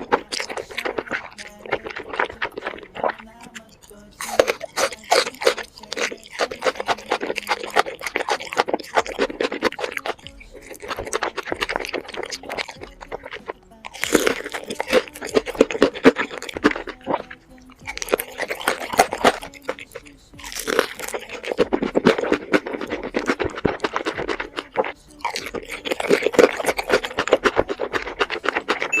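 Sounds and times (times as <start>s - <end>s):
chewing and mouth sounds: 0.0s - 29.0s.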